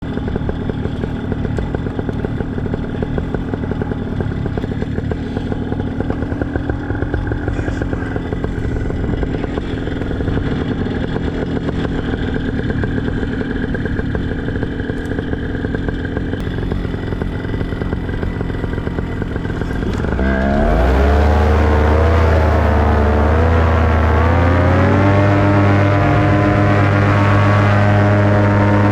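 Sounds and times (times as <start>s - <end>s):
paramotor engine running: 0.0s - 28.9s.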